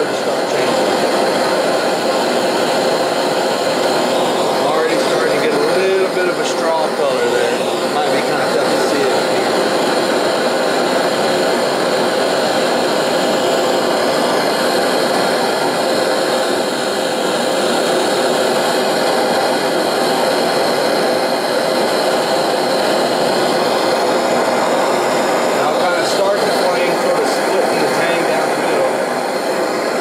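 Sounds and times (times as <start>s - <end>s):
gas torch rushing: 0.0s - 30.0s.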